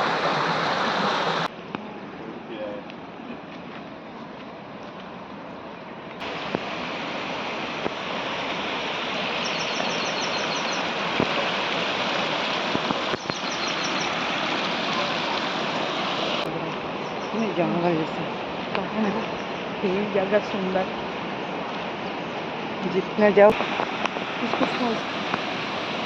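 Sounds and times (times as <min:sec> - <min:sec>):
rushing stream water: 0:00.0 - 0:26.0.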